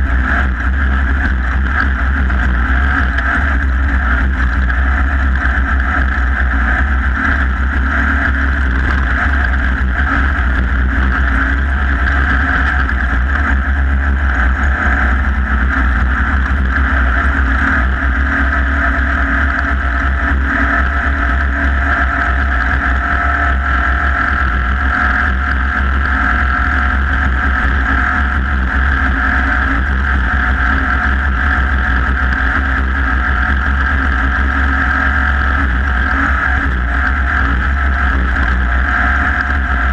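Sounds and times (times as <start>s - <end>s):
race vehicle engine running hard: 0.0s - 39.9s.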